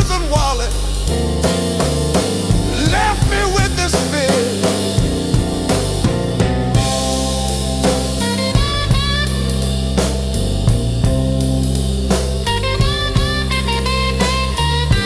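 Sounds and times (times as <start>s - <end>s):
bass: 0.0s - 15.0s
blues band music: 0.0s - 15.0s
drum kit beat: 0.0s - 15.0s.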